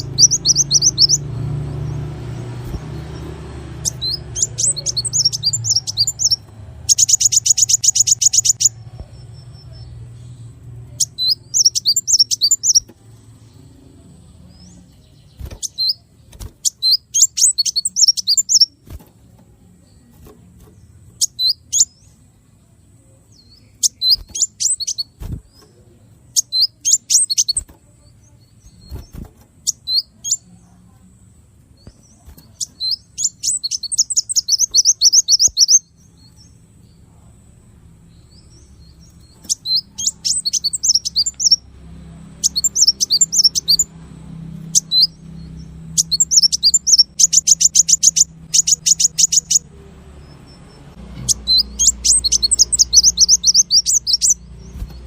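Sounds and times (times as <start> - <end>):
songbird chirping and trilling: 0.0 - 55.0.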